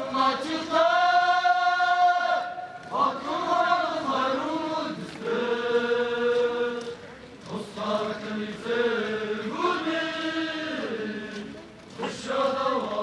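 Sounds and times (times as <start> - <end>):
chanting voice holding long notes: 0.0 - 13.0.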